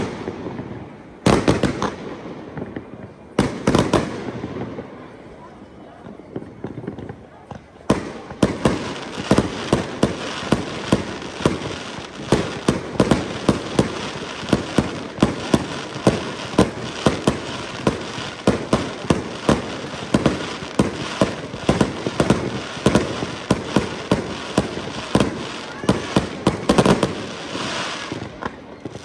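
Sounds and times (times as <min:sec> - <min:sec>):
fireworks crackle: 0:00.0 - 0:29.0.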